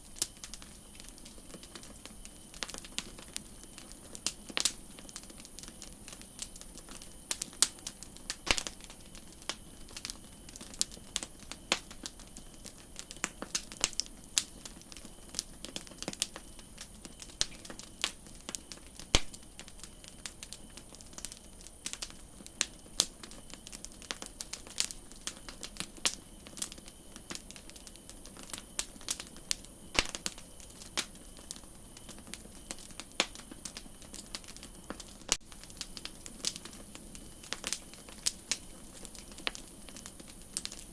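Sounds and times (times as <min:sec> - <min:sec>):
campfire crackling and popping: 0:00.0 - 0:40.9
soft steady hiss: 0:00.0 - 0:40.9.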